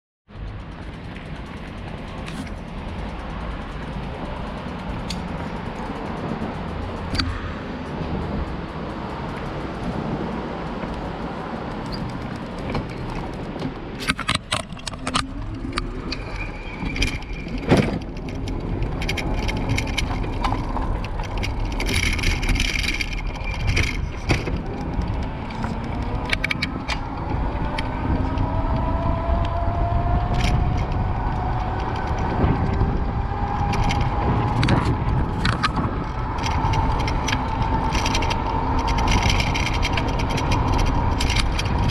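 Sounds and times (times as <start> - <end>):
bicycle rattling over cobbles: 0.3 - 41.9
car traffic passing: 0.3 - 41.9
wind and road noise: 0.3 - 41.9.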